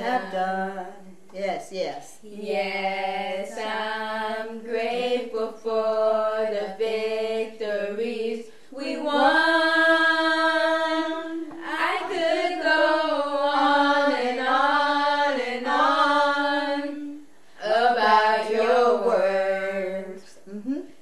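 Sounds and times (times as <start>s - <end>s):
woman singing unaccompanied: 0.0s - 1.5s, 2.2s - 20.8s.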